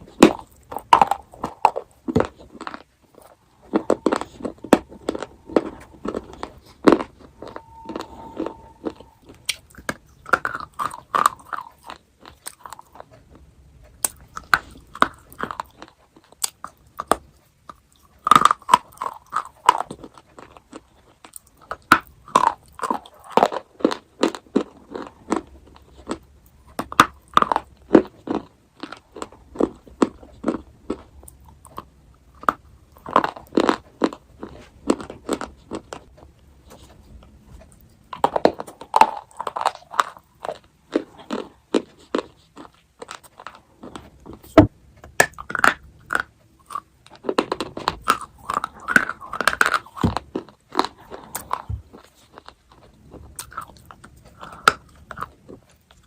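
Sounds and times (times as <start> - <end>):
chocolate crunching chews: 0.0 - 56.0.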